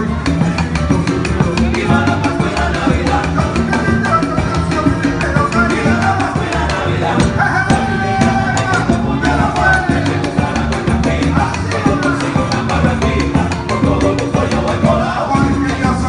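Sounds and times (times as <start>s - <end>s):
congas and hand percussion: 0.0s - 16.0s
latin band playing: 0.0s - 16.0s
lead singer singing: 1.5s - 16.0s.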